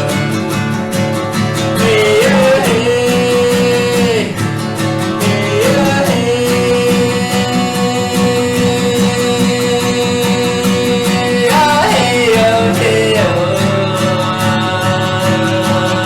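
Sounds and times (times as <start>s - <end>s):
strummed acoustic guitar: 0.0s - 16.0s
person singing long notes: 1.8s - 4.5s, 5.2s - 16.0s.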